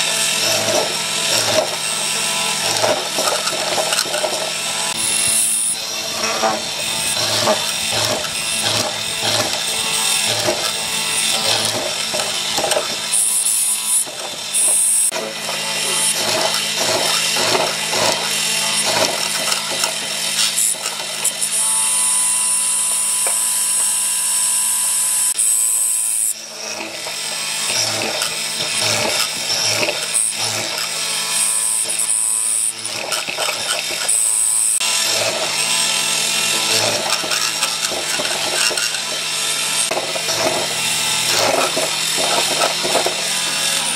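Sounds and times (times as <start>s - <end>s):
chisel cutting into wood: 0.0s - 23.8s, 26.2s - 43.9s
mortiser motor humming: 0.0s - 43.9s.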